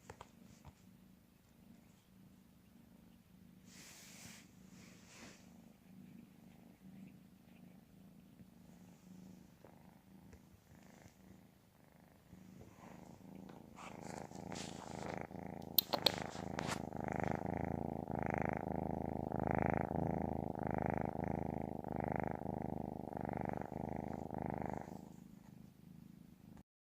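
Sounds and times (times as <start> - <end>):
cat purring: 0.0 - 26.6.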